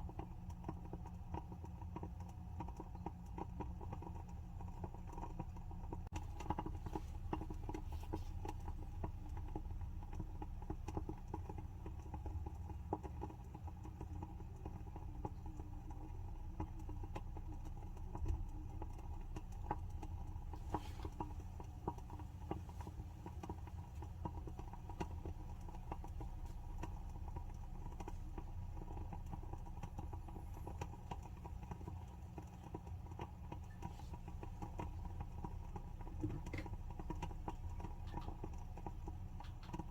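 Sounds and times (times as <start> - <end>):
steady low hum: 0.0 - 39.9
candle wick crackling: 0.8 - 39.9.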